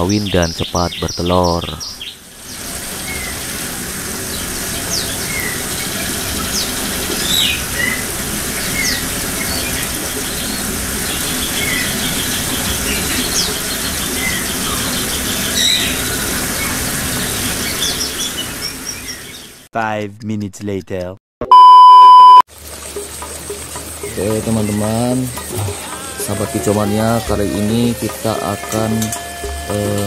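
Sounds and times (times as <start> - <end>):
songbirds chirping: 0.0 - 19.6, 23.9 - 29.1.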